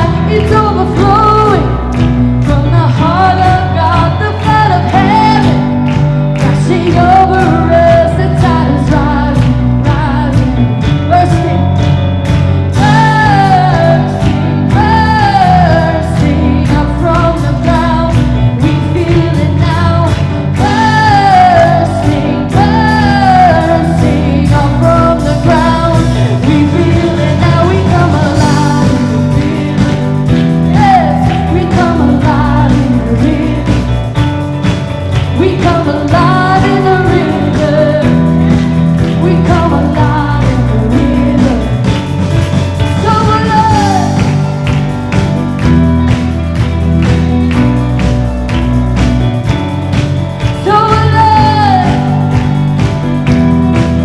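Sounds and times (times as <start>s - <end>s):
person singing: 0.0s - 45.8s, 50.4s - 54.0s
guitar: 0.0s - 54.0s
steady drum beat: 0.0s - 54.0s.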